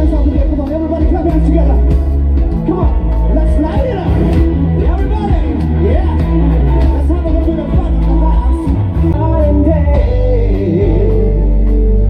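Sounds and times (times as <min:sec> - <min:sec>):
man singing: 0:00.0 - 0:12.0
rock band playing: 0:00.0 - 0:12.0.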